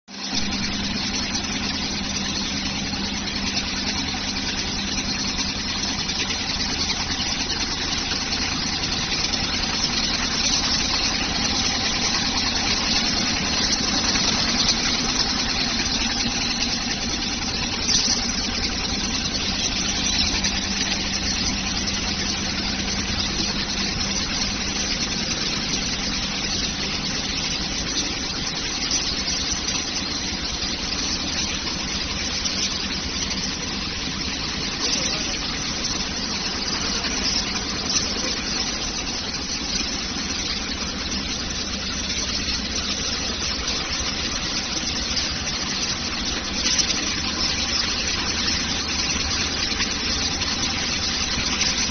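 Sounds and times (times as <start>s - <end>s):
quilting machine hum: 0.2s - 51.9s.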